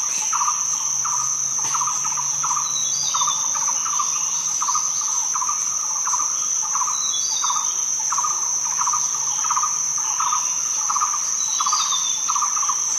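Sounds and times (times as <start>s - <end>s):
cricket trill: 0.0s - 12.9s
low pulsing insect chirp: 0.0s - 12.9s.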